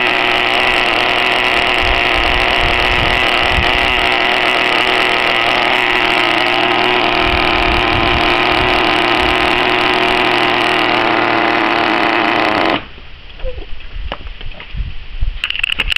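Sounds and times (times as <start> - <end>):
small two-stroke engine running: 0.0 - 13.0.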